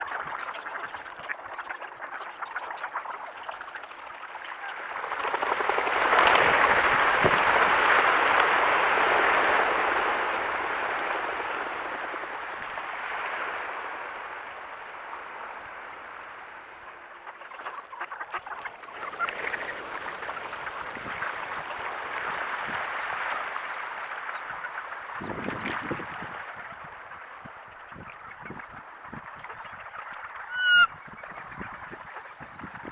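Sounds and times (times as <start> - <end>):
flock of ducks quacking: 0.0 - 13.9, 16.4 - 32.9.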